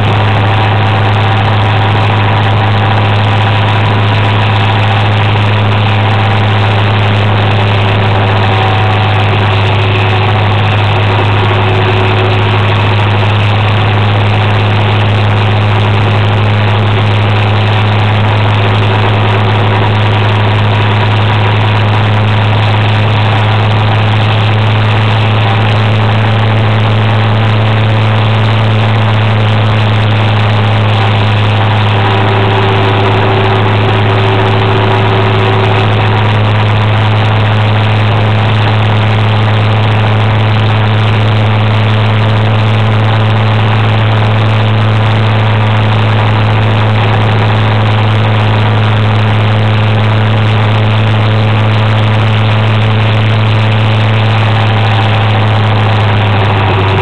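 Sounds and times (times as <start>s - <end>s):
scooter engine droning: 0.0s - 57.0s
wind and road noise: 0.0s - 57.0s.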